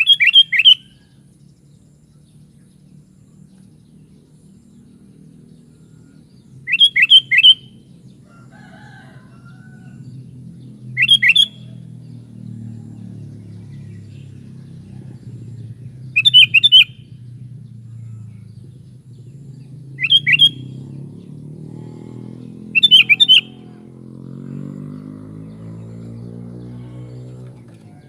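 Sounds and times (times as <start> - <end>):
bird calling rising notes: 0.0 - 1.3, 4.6 - 13.0, 13.6 - 18.5, 19.3 - 27.6.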